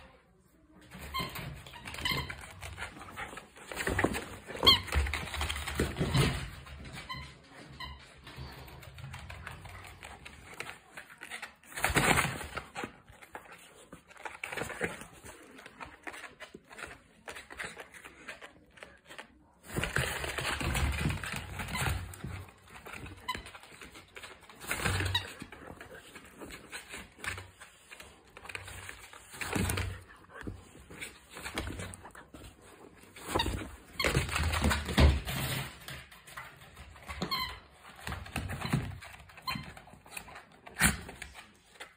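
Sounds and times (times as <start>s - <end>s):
dog scuffling with plastic toy: 0.8s - 41.9s.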